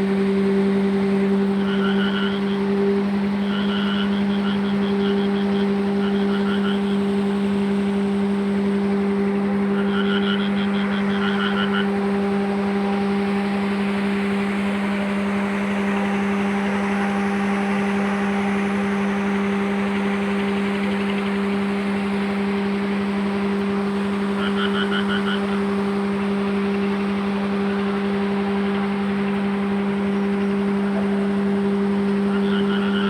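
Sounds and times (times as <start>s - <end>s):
heavy vehicle engine droning: 0.0s - 33.0s
rapid pulsing chirp: 0.0s - 33.0s.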